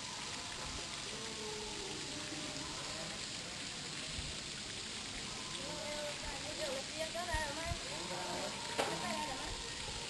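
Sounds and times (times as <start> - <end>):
falling water hiss: 0.0 - 10.0.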